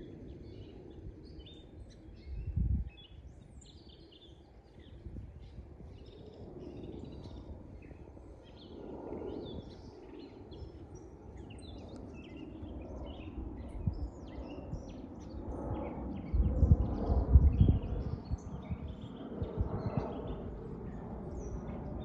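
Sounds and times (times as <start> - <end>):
jet airliner rumble overhead: 0.0 - 22.0.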